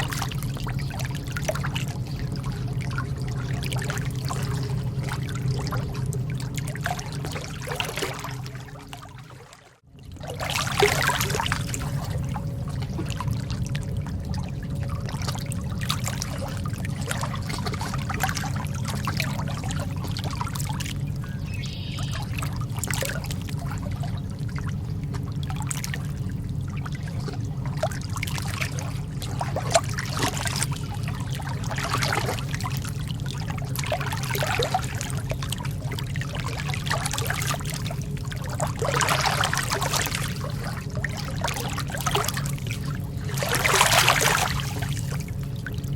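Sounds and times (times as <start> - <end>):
lake water lapping: 0.0 - 45.9
small water splashes: 0.0 - 45.9
steady low rumble: 0.0 - 45.9.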